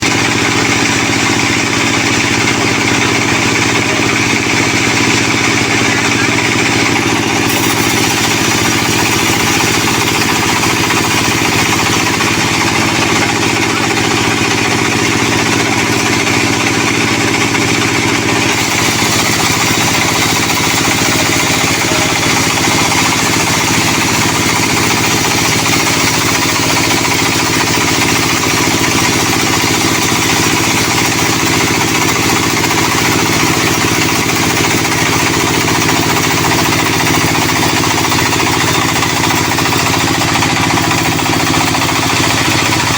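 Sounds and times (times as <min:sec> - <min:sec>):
engine running steadily: 0:00.0 - 0:42.9
sawmill saw cutting log: 0:00.0 - 0:42.9.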